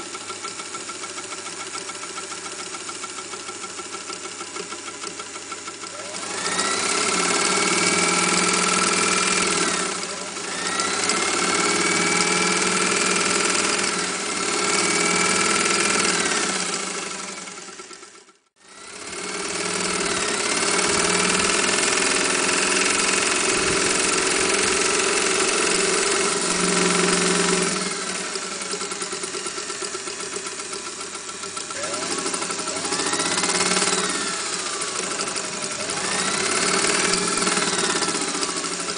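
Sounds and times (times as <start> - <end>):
electric sewing machine stitching: 0.0 - 38.9.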